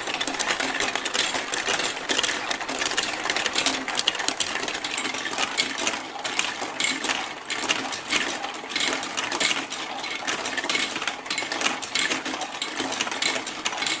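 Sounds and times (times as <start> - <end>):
marbles rattling down plastic track: 0.0 - 14.0.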